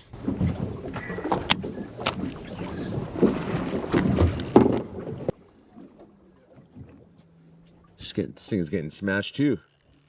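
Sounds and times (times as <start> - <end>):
water against boat: 0.0 - 10.0.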